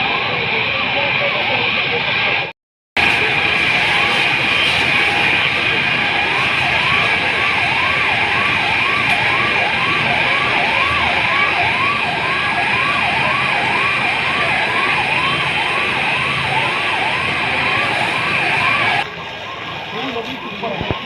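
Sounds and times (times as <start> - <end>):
siren yelping: 3.0 - 21.0.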